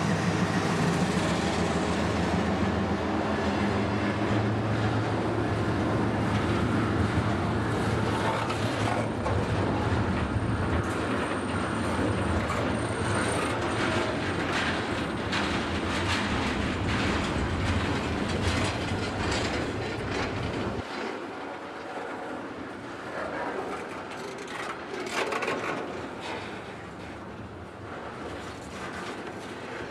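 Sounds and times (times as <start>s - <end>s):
train wheels clicking over rail joints: 0.0s - 29.9s.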